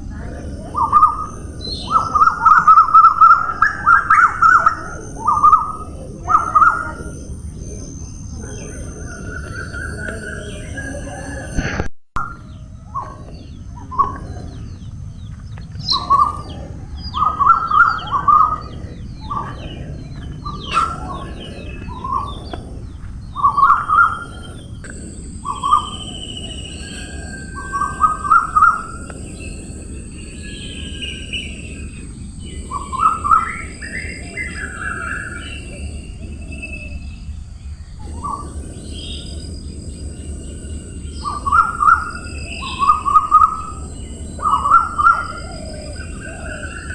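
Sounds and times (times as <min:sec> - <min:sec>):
low rumble: 0:00.0 - 0:46.9
steady high-pitched hiss: 0:00.0 - 0:46.9
high bird chirps: 0:00.1 - 0:11.5, 0:12.2 - 0:46.9.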